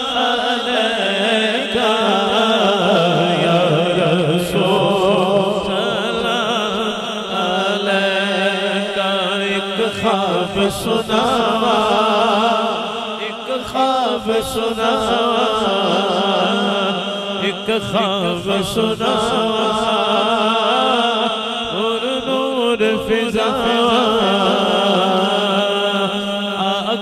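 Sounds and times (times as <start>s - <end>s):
man singing into a microphone: 0.0s - 27.0s.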